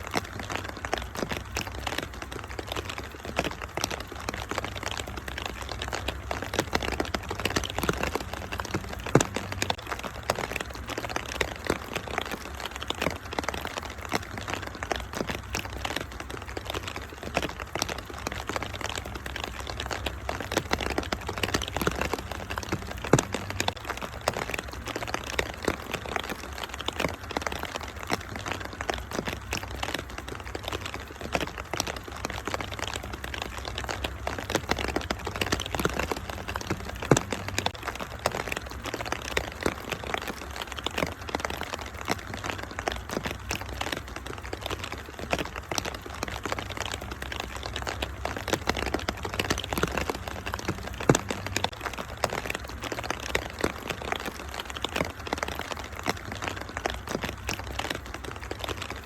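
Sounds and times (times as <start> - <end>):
rain hiss: 0.0 - 59.0
wood fire crackling and popping: 0.0 - 59.0.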